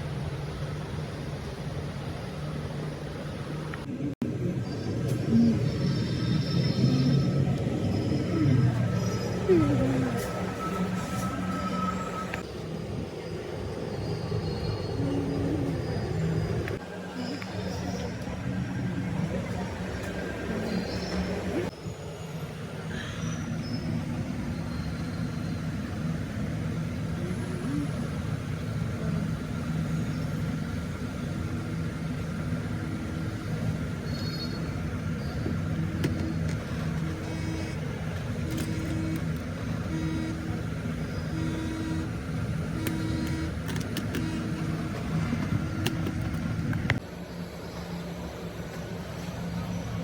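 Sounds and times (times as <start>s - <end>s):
low mechanical rumble: 0.0s - 50.0s.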